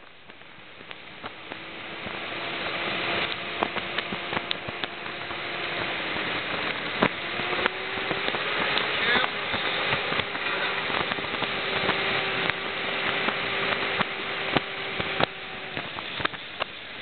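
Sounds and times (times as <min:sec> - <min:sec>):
road and wind noise: 0:00.0 - 0:17.0
vehicle engine tone: 0:00.0 - 0:17.0.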